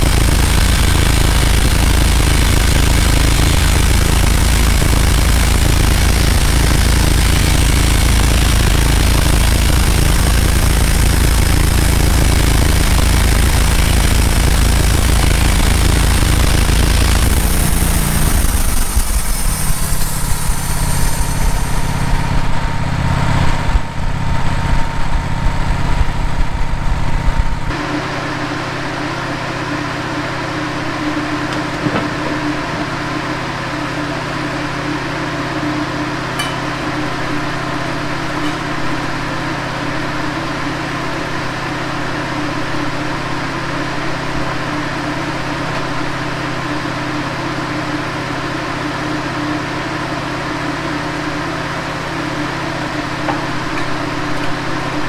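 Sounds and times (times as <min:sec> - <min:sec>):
bandsaw mill sawing log: 0:00.0 - 0:22.6, 0:29.0 - 0:55.0
engine running steadily: 0:00.0 - 0:55.0.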